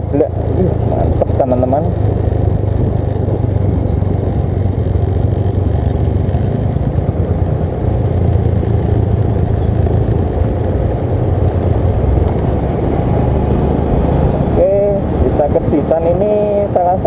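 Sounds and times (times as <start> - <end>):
scooter engine humming: 0.0 - 17.0
wind buffeting microphone: 0.2 - 16.6.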